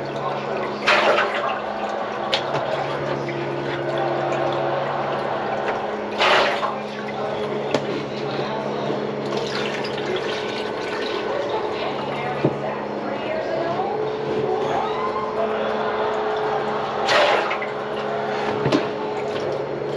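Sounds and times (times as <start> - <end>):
water rushing in sink plumbing: 0.0 - 19.9.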